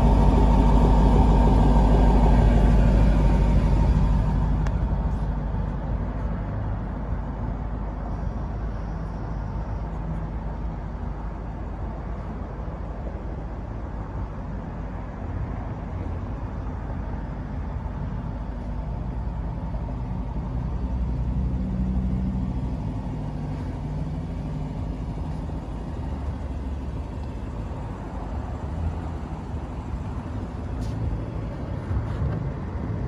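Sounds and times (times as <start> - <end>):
car engine idling: 0.0 - 12.5, 16.3 - 33.0.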